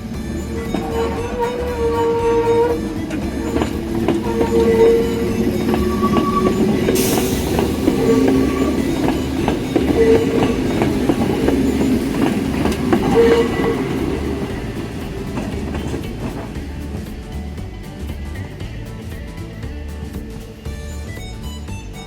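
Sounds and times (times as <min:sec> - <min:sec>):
train wheels clicking over rail joints: 0:00.0 - 0:20.7
low train rumble: 0:00.0 - 0:22.0.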